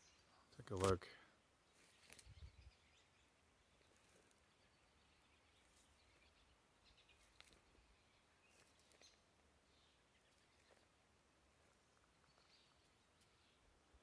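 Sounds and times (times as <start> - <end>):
faint bird chirps: 0.0 - 0.6, 1.3 - 11.0, 11.6 - 13.8.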